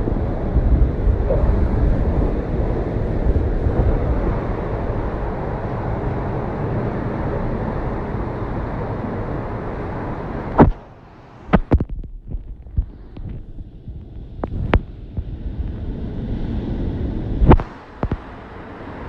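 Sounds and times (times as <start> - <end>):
surf: 0.0 - 19.0
wind buffeting microphone: 0.0 - 19.0.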